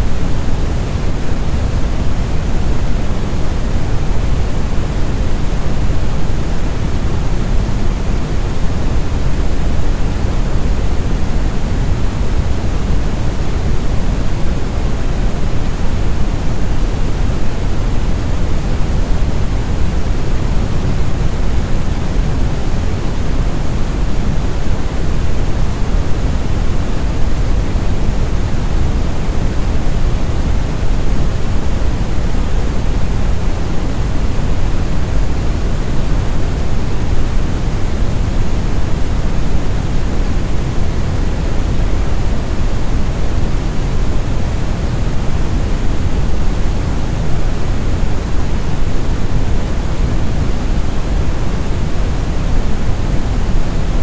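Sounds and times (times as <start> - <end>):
brown noise: 0.0 - 54.0.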